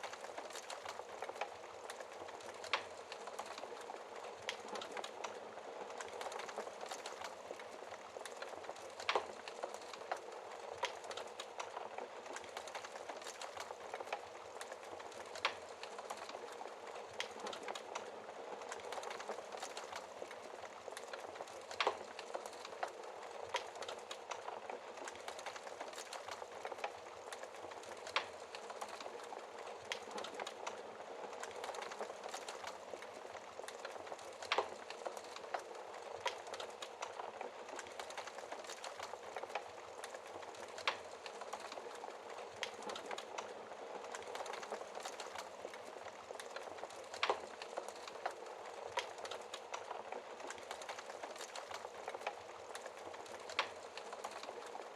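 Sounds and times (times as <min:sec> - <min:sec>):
fireplace fire crackling: 0:00.0 - 0:54.9.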